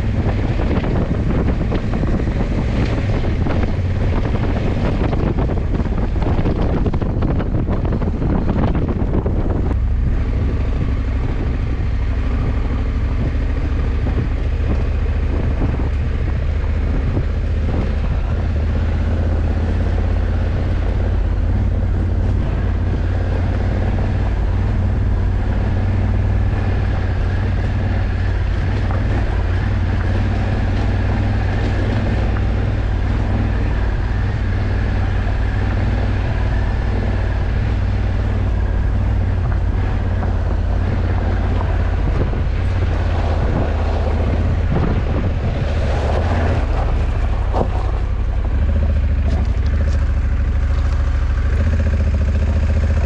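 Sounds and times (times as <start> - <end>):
motorcycle engine cruising: 0.0 - 53.0
wind blowing on microphone: 0.0 - 53.0.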